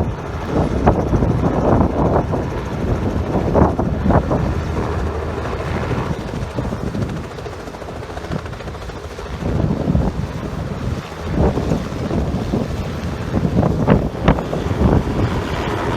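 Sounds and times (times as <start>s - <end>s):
helicopter rotor and engine: 0.0s - 15.9s
wind gusting on microphone: 0.0s - 15.9s.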